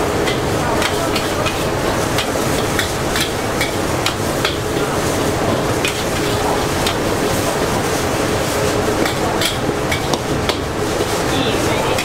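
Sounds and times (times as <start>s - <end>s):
food frying sizzle: 0.0s - 12.0s.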